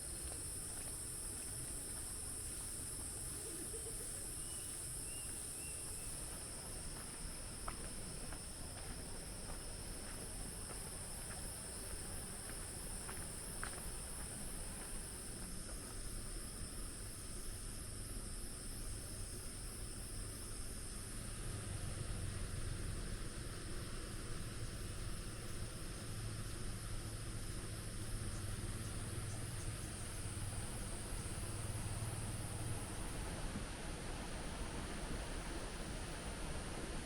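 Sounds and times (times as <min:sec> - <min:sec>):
insects buzzing in chorus: 0:00.0 - 0:37.0.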